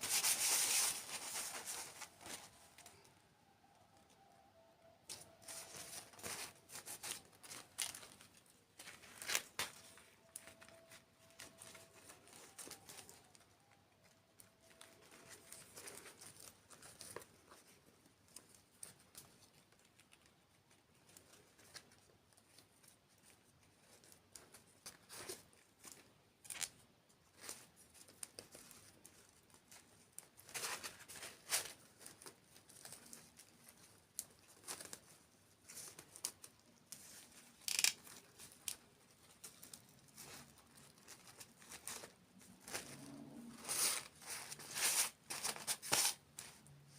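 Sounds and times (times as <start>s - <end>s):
wrapper crinkling and crackling: 0.0s - 3.1s, 5.1s - 46.9s.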